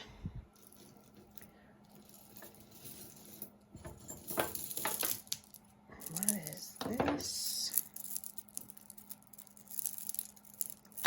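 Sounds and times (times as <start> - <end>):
jewelry rustling and clicking: 0.5 - 11.0.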